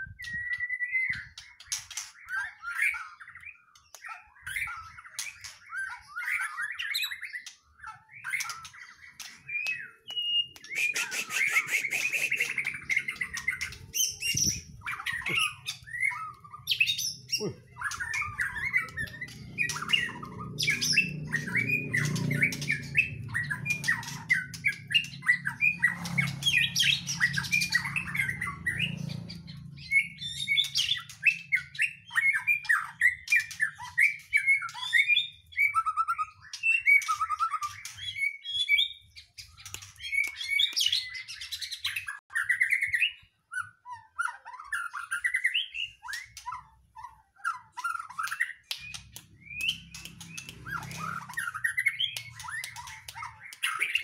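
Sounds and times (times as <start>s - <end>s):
bird singing whistles and squawks: 0.0s - 54.0s.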